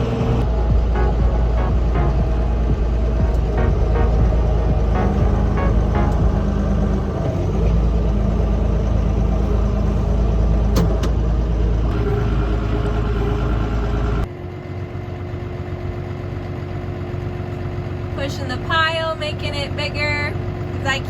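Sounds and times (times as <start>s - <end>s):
heavy vehicle engine droning: 0.0s - 21.0s.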